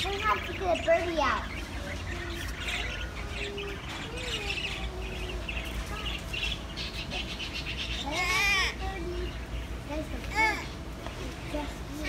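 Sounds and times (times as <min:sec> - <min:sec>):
parakeets chirping: 0:00.0 - 0:12.0
steady low hum: 0:00.0 - 0:12.0.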